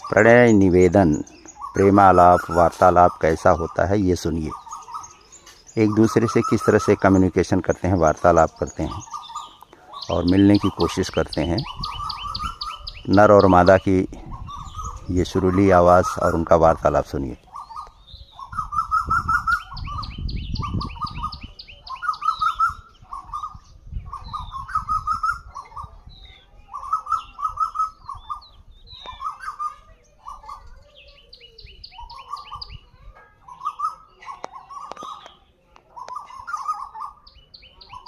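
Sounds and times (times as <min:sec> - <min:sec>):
koels calling: 0:00.0 - 0:38.0.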